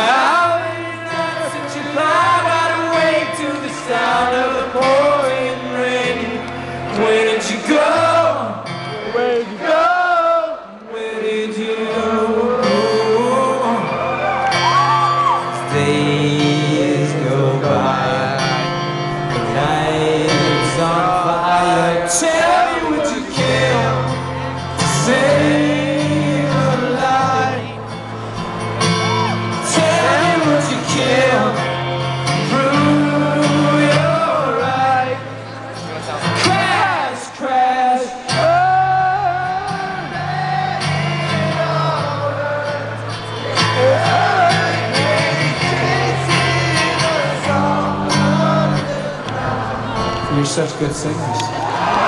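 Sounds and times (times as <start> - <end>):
man singing: 0.0 - 28.0, 29.5 - 51.2
acoustic guitar strumming: 0.0 - 52.0.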